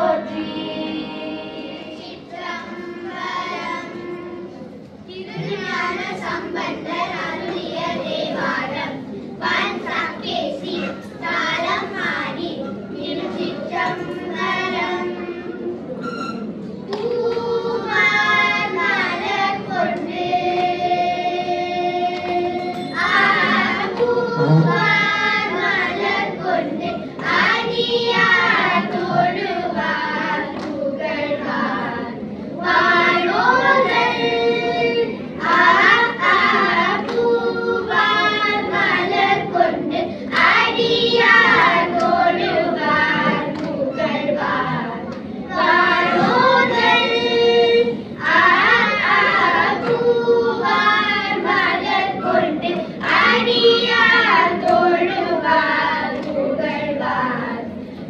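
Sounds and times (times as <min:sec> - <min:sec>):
children singing a hymn: 0:00.0 - 0:58.0.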